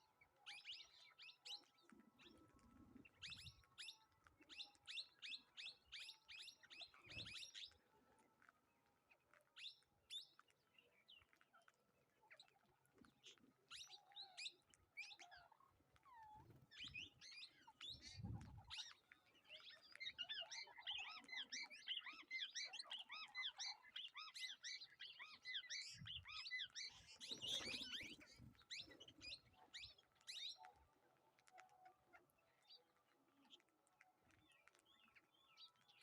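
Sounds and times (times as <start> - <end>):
faint flock of birds chirping: 0.0 - 36.0.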